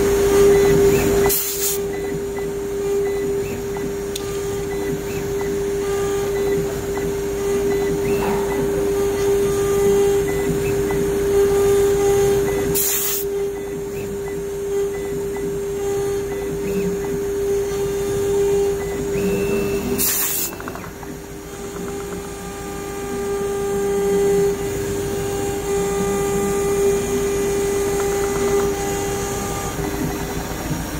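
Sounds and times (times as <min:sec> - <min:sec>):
router spindle whine: 0:00.0 - 0:30.9
stepper motors buzzing: 0:00.0 - 0:30.9.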